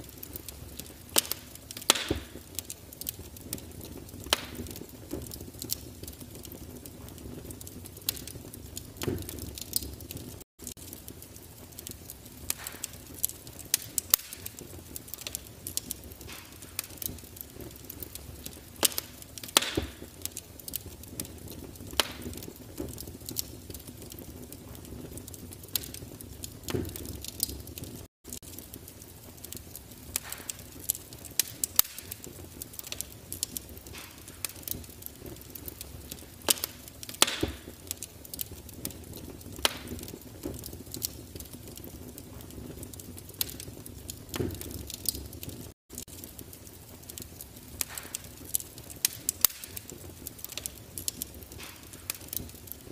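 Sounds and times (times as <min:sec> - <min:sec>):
wood fire crackling and popping: 0:00.0 - 0:52.9.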